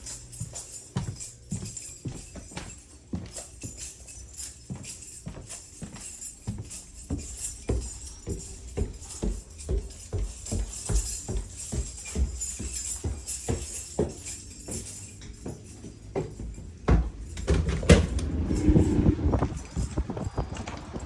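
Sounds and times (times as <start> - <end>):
music with tambourine-like beat: 0.0 - 21.0.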